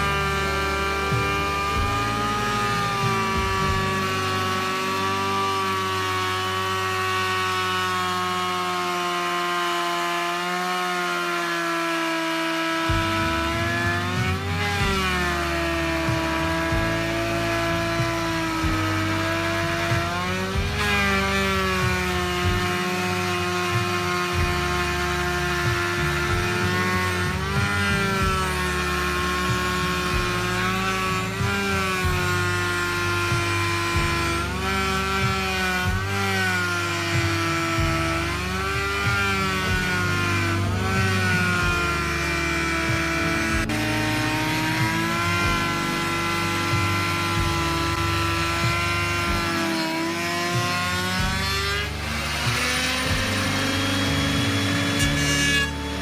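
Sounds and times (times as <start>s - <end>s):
power tool whining: 0.0s - 56.0s.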